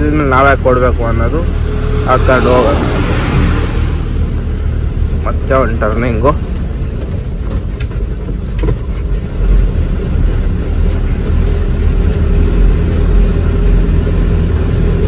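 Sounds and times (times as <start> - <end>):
truck diesel engine pulling uphill: 0.0 - 15.0.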